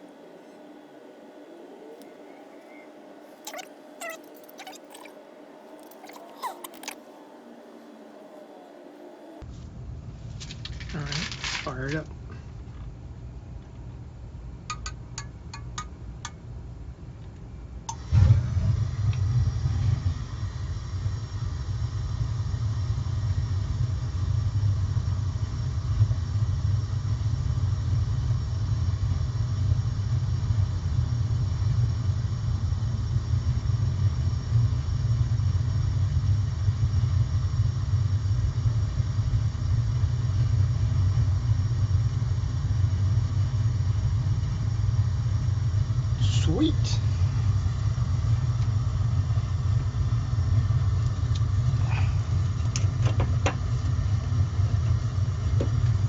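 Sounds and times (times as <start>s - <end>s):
gas burner rumbling: 0.0s - 56.0s.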